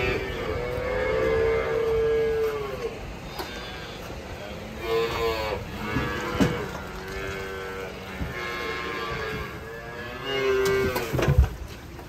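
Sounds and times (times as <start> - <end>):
calves bawling: 0.0 - 11.6.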